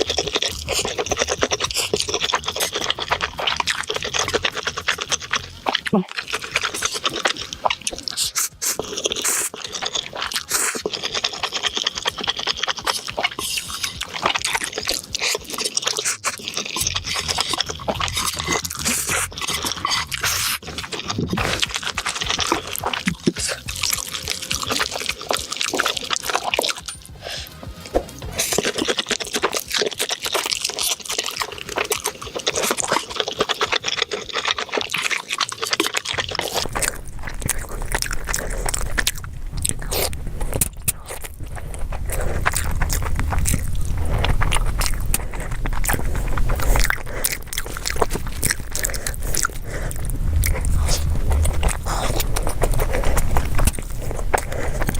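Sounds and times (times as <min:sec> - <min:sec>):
wet chewing and slurping: 0:00.0 - 0:54.9.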